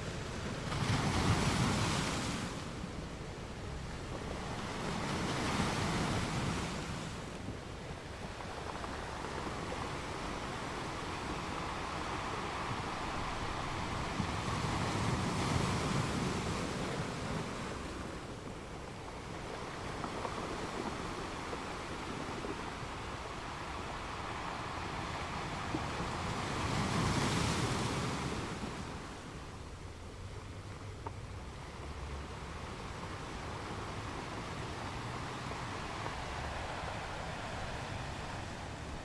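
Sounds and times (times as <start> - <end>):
ocean waves on beach: 0.0 - 39.0.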